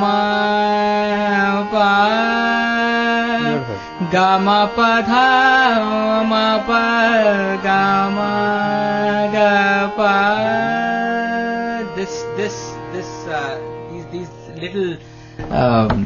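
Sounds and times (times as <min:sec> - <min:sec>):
steady drone: 0:00.0 - 0:15.8
man singing classical melody: 0:00.0 - 0:16.0.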